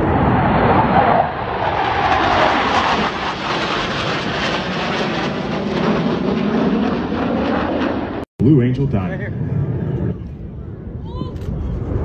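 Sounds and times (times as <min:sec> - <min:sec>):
jets flying overhead: 0:00.0 - 0:12.0.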